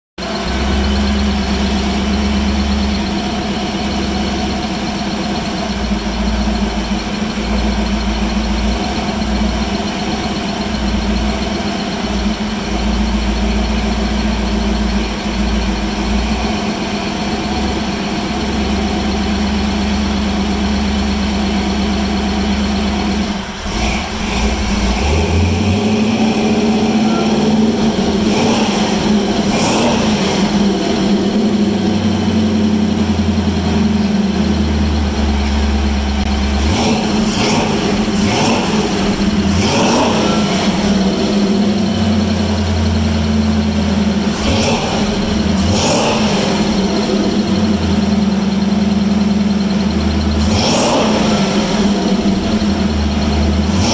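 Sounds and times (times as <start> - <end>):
car engine idling: 0.2 - 53.9.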